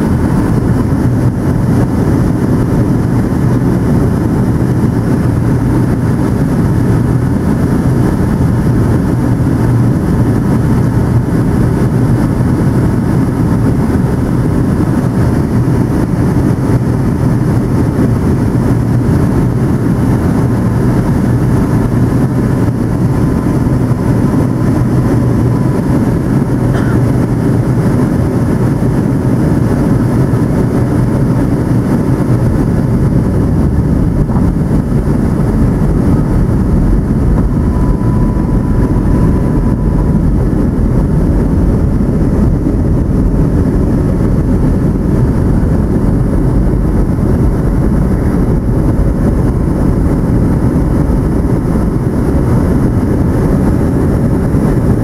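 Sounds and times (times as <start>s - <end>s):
air rushing along fuselage: 0.0s - 55.0s
jet engines rumbling: 0.0s - 55.0s.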